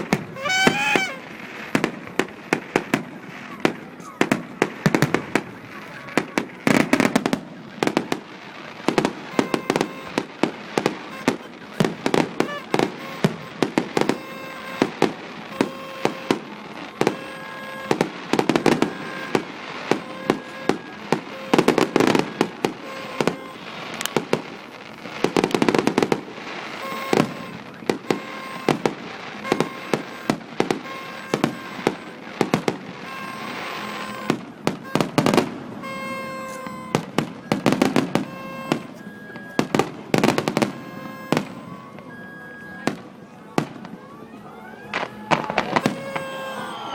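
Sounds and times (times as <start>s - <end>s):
fireworks bangs and pops: 0.0s - 46.9s
fireworks crackling: 0.0s - 46.9s.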